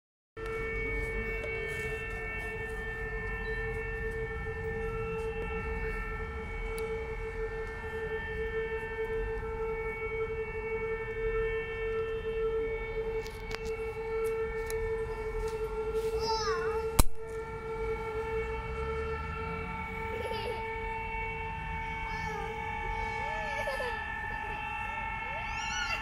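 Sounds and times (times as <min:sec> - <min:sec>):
siren steady tone: 0:00.4 - 0:26.0.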